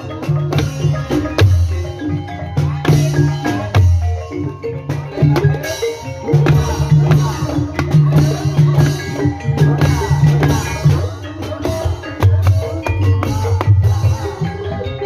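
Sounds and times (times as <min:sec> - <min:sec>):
bamboo xylophones melody: 0:00.0 - 0:15.0
drum strokes: 0:00.0 - 0:15.0.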